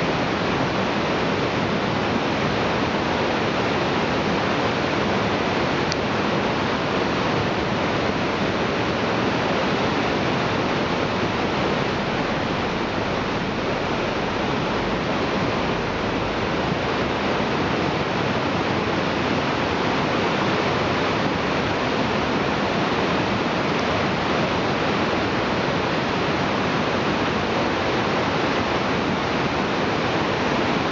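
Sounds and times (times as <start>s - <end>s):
whitewater rapids rushing: 0.0s - 30.9s.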